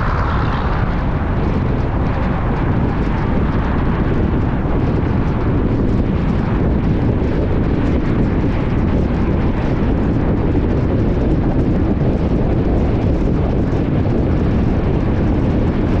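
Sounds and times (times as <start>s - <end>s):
moving car rumble: 0.0s - 16.0s.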